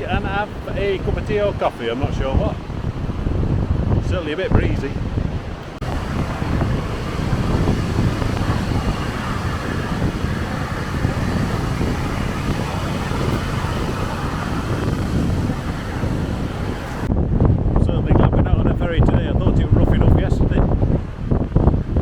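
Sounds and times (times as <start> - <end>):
rough stormy sea rushing: 0.0 - 22.0
strong wind buffeting microphone: 0.0 - 22.0.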